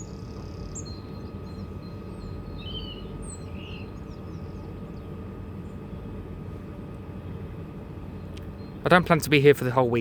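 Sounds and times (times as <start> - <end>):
small birds chirping: 0.0 - 6.2, 7.2 - 9.4
faint hum: 0.0 - 10.0
low background rumble: 0.0 - 10.0.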